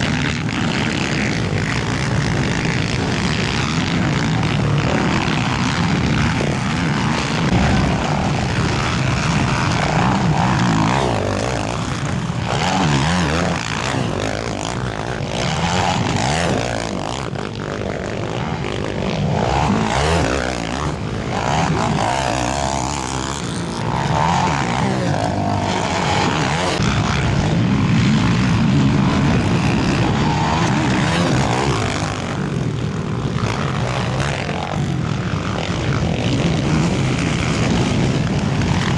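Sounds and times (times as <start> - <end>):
quad engines revving: 0.0 - 38.9.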